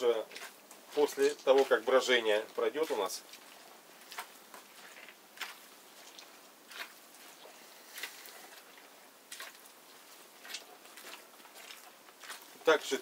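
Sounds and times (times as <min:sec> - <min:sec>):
wet squelches of grapes crushed: 0:00.0 - 0:13.0.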